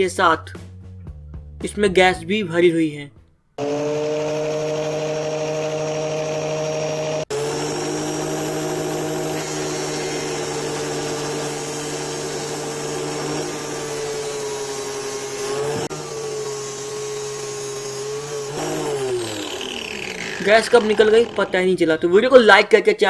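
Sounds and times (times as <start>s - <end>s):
angle grinder grinding plastic: 3.6s - 22.4s.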